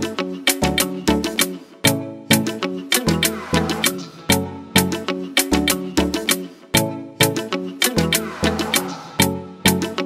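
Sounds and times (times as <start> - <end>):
upbeat music with steady beat: 0.0 - 10.0.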